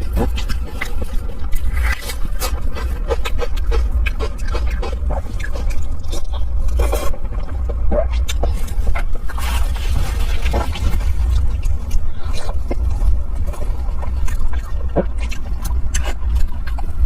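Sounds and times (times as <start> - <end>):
chewing and mouth clicks: 0.0 - 17.0
steady low rumble: 0.0 - 17.0.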